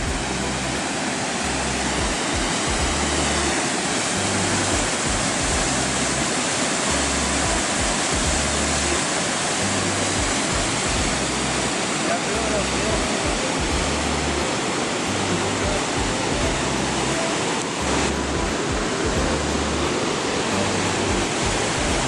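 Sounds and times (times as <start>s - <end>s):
background music with bass: 0.0s - 22.0s
water rushing through rapids: 0.0s - 22.0s.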